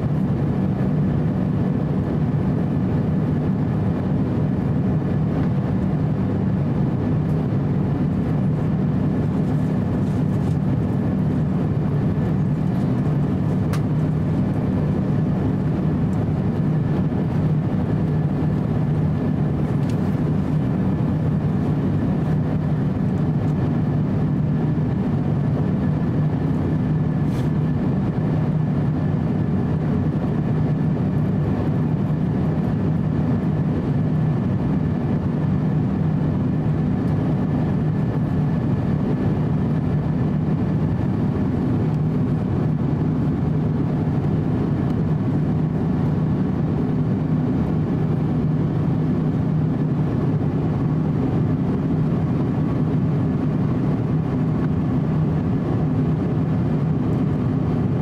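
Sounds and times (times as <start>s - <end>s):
aircraft engine and airflow rumble: 0.0s - 58.0s.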